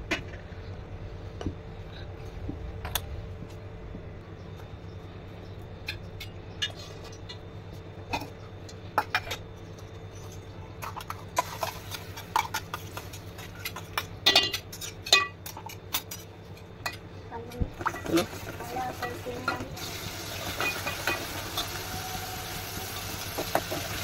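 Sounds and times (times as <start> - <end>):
steady low hum: 0.0 - 23.4.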